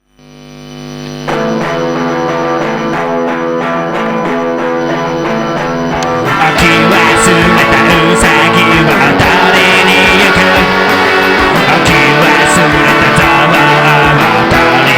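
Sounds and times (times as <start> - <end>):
guitar repeating note pattern: 1.0 - 14.9
rock band with drums: 1.2 - 14.9.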